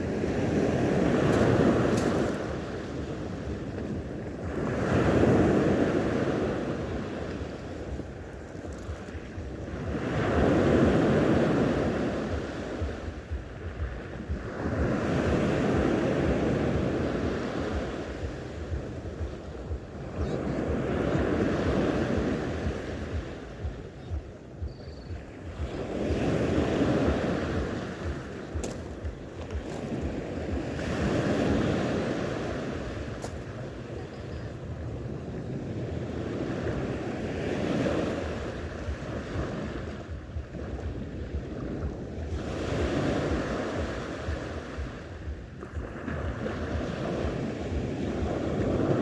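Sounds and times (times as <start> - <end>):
sea waves washing onto shore: 0.0 - 49.0
wind buffeting microphone: 0.0 - 49.0.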